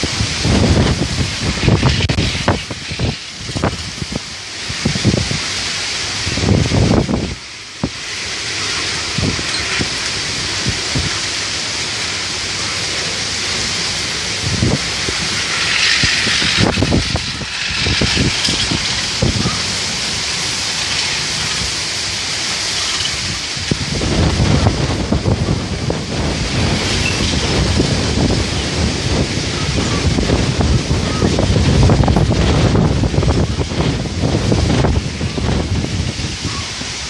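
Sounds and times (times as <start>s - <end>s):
strong gusty wind: 0.0s - 37.0s
wind buffeting microphone: 0.0s - 37.0s.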